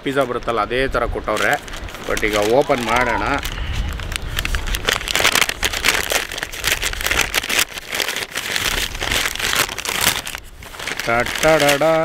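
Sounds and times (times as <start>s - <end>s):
paper bag crinkling: 1.2s - 12.0s.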